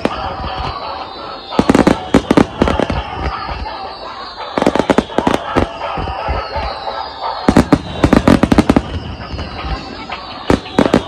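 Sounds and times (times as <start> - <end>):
fireworks bursts with crackling: 0.0 - 11.0.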